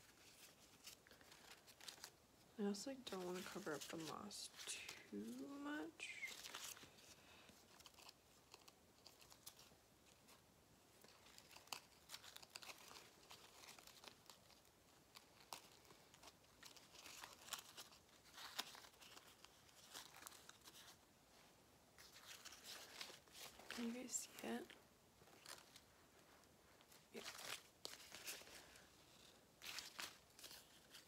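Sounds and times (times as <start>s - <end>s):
artificial leaves rustling: 0.0s - 31.0s.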